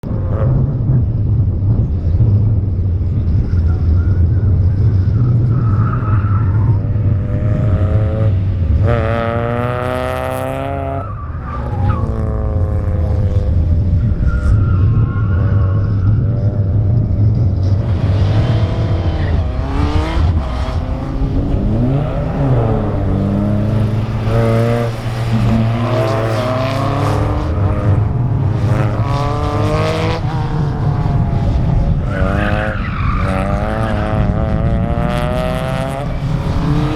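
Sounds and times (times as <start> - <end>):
racing car engine: 0.0 - 36.9.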